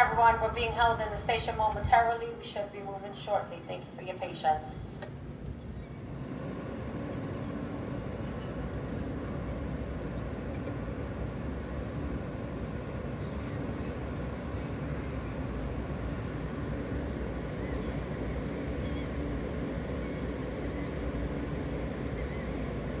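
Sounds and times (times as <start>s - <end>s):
subway train equipment humming: 0.0s - 23.0s.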